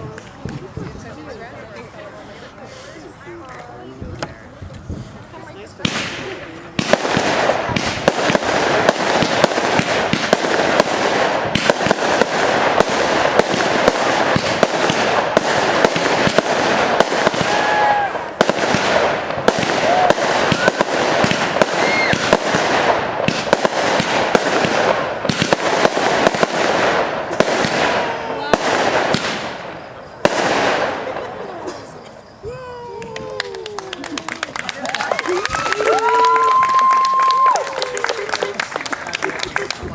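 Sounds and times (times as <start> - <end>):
fireworks bangs and crackling: 0.0 - 2.3, 2.9 - 39.9
firework whistling: 4.8 - 39.9.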